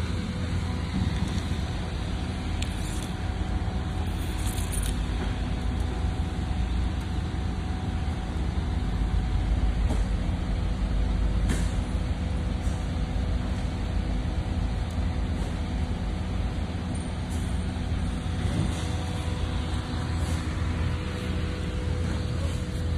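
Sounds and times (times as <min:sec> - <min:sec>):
constant hum tones: 0:00.0 - 0:22.9.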